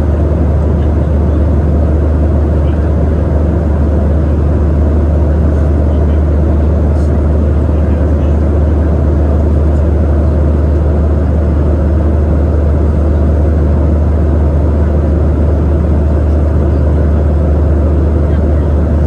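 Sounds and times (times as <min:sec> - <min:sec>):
airplane cabin noise: 0:00.0 - 0:19.0.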